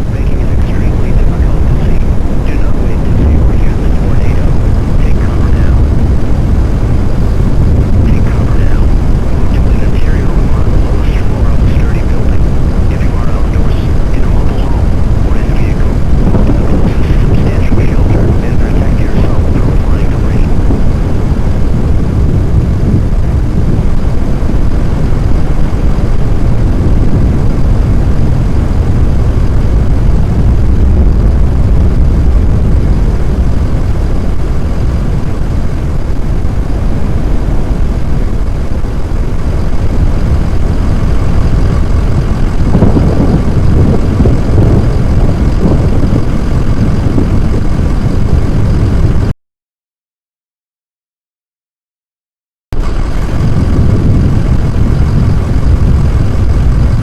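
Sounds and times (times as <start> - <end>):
loud low rumbling: 0.0 - 49.3, 52.8 - 57.0.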